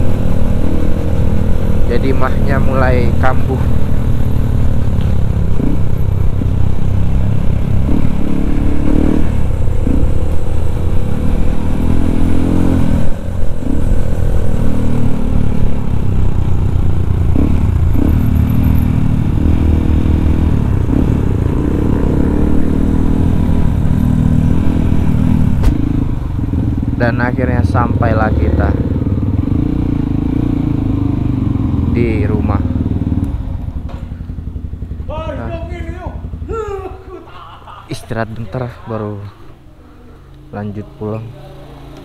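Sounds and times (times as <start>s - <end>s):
motorcycle engine revving: 0.0s - 37.3s, 37.9s - 42.0s.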